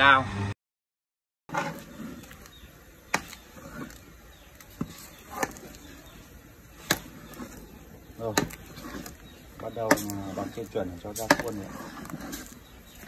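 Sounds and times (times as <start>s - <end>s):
stirring sticky paste: 1.5s - 13.0s.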